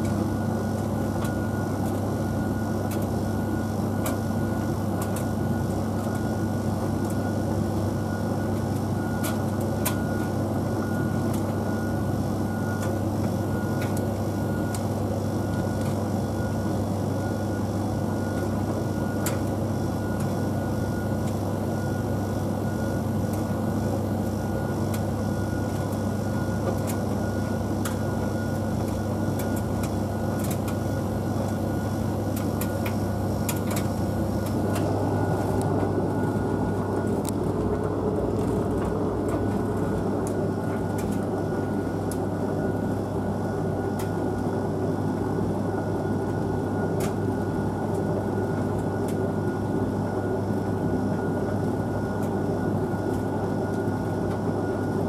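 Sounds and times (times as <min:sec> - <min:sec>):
tumble dryer hum and rush: 0:00.0 - 0:55.0.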